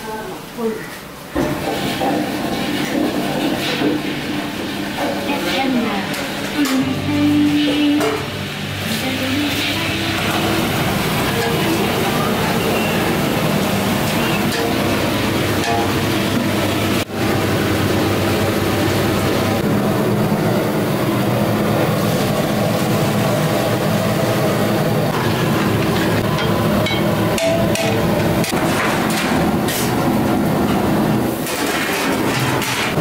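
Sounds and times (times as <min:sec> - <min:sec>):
kitchen equipment mechanical rumble: 0:00.0 - 0:33.0.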